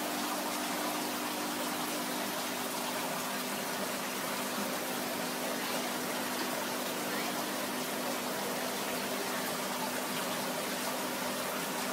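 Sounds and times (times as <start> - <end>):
bubbling churning water: 0.0 - 11.9
faint steady hum: 0.0 - 11.9.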